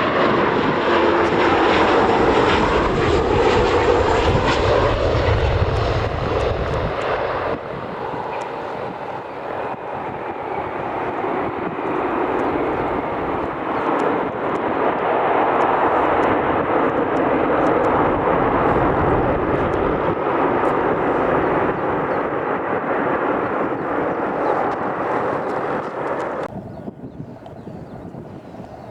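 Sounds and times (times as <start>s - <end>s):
aircraft engines passing: 0.0s - 28.9s.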